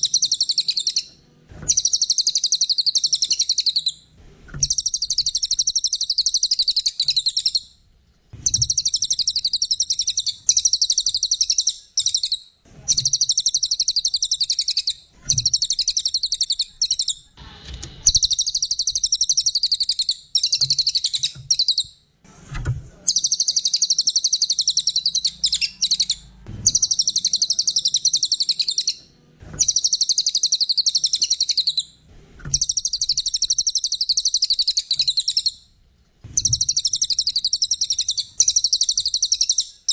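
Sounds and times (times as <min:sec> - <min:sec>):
songbird twittering: 0:00.0 - 0:01.1, 0:01.7 - 0:04.0, 0:04.6 - 0:07.7, 0:08.4 - 0:17.3, 0:18.0 - 0:22.0, 0:23.1 - 0:29.0, 0:29.6 - 0:35.6, 0:36.4 - 0:39.9.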